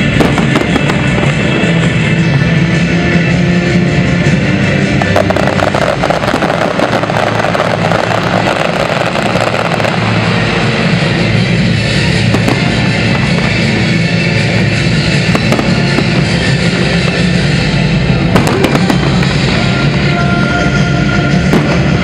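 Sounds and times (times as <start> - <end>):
fireworks crackling and bursting: 0.0 - 22.0
loud rock music: 0.0 - 22.0.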